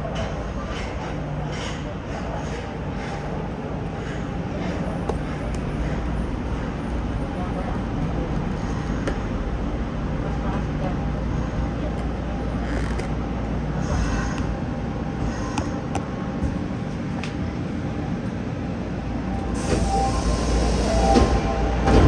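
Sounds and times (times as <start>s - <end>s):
train low hum: 0.0s - 22.0s.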